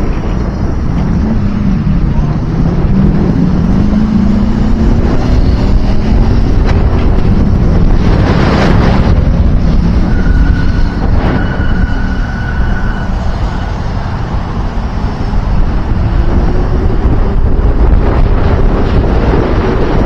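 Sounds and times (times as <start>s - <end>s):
low road rumble: 0.0s - 20.0s
wind buffeting microphone: 0.0s - 20.0s.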